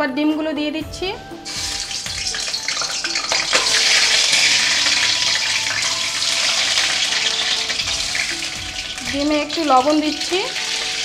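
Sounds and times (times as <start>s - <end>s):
eggs sizzling in hot oil: 1.1s - 11.0s.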